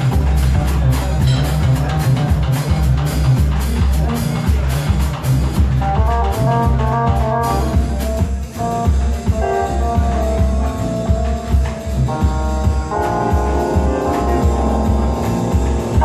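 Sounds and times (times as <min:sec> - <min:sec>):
band melody of held notes: 0:00.0 - 0:16.0
deep bass line: 0:00.0 - 0:16.0
drum beat: 0:00.0 - 0:16.0.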